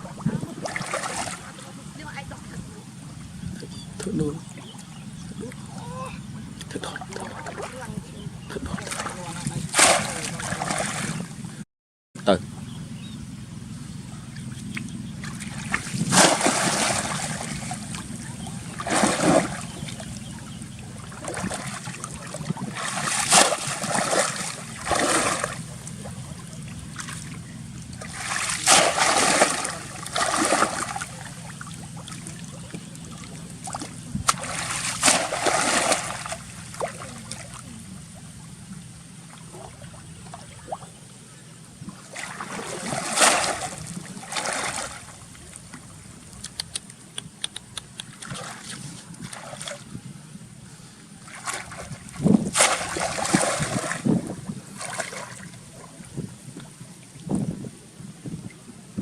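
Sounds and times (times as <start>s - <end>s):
water splashing: 0.0s - 2.5s, 6.7s - 11.4s, 14.6s - 41.0s, 41.8s - 50.0s, 51.2s - 57.4s
steady low hum: 0.0s - 11.6s, 12.2s - 59.0s.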